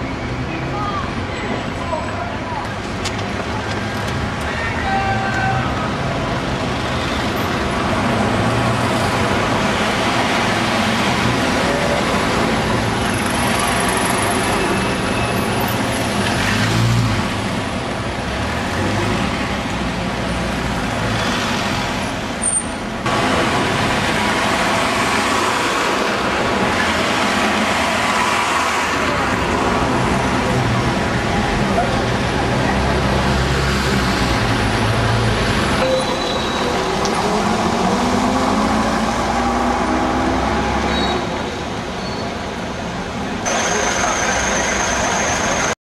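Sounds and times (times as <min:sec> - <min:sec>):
diesel bus engines rumbling: 0:00.0 - 0:45.8
road noise: 0:00.0 - 0:45.8.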